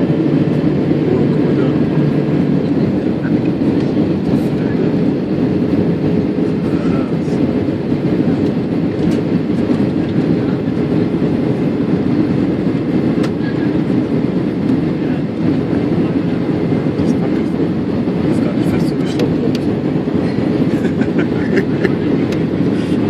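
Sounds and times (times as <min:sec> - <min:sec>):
airflow rushing over fuselage: 0:00.0 - 0:23.0
jet engines rumbling: 0:00.0 - 0:23.0.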